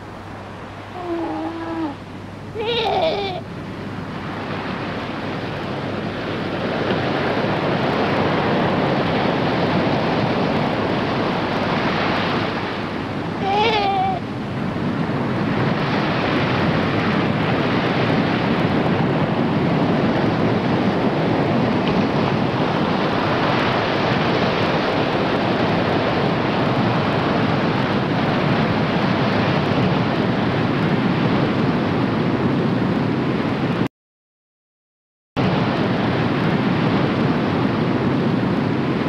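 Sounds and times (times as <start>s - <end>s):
surf breaking on beach: 2.6s - 33.8s, 35.4s - 39.0s.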